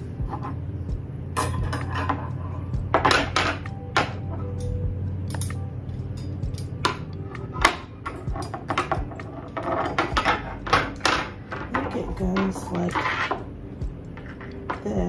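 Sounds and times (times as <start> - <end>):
low hum: 0.0 - 15.0
metal wire parts clinking: 1.4 - 13.5, 14.1 - 15.0.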